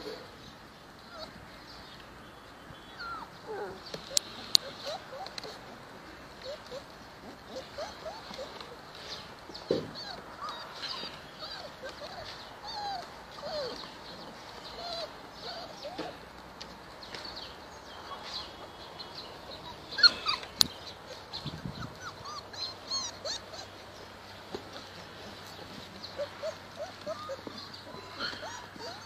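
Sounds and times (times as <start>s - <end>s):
puppies whimpering and squeaking: 1.0s - 1.4s, 2.9s - 16.3s, 19.2s - 29.0s.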